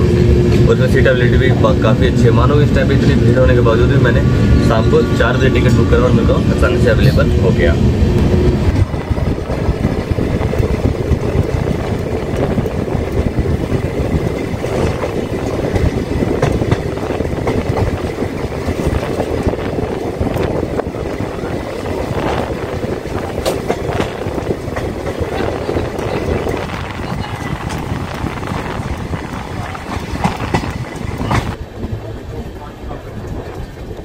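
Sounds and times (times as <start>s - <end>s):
train wheels rumbling on track: 0.0s - 34.0s
rushing air: 1.8s - 33.5s.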